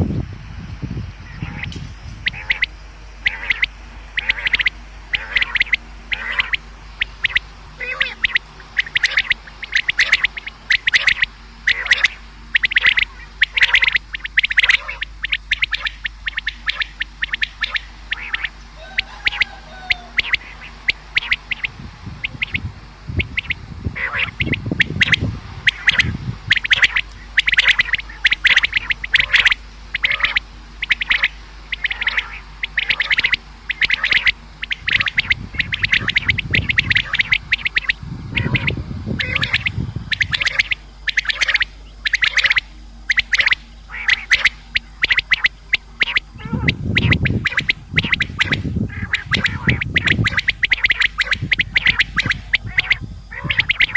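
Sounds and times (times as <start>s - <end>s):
low rumble: 0.0s - 53.9s
steady low hum: 0.0s - 53.9s
quail calling: 1.1s - 53.9s.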